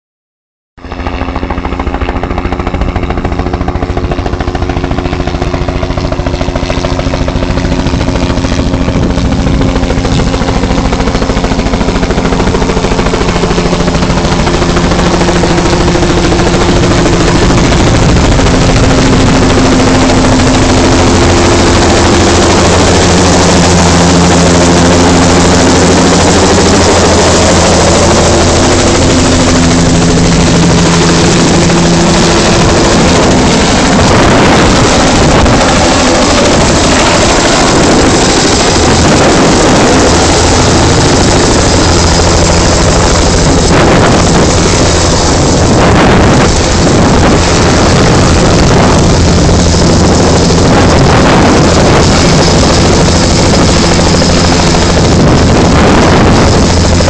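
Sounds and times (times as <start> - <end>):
helicopter rotor beat and turbine hum: 0.8 - 57.0.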